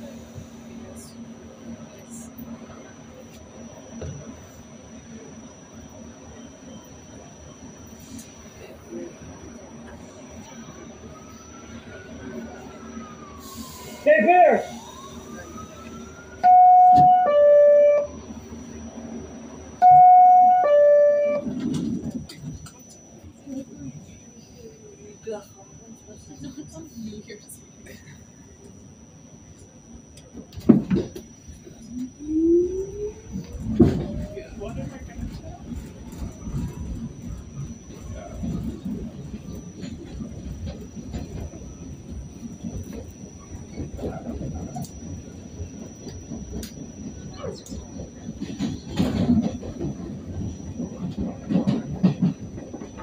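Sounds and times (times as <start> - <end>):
subway car rumble: 0.0 - 53.0.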